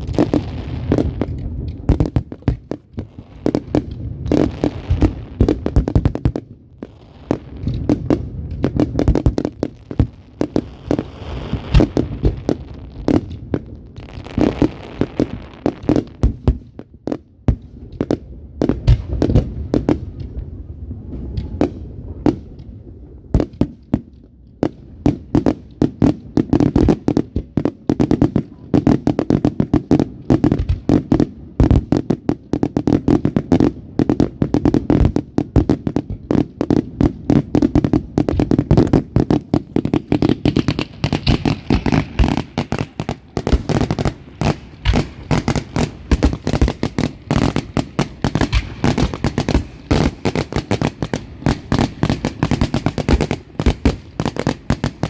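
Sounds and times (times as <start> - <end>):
crackling hiss: 0.0 - 55.0
fireworks bangs and pops: 0.0 - 55.0.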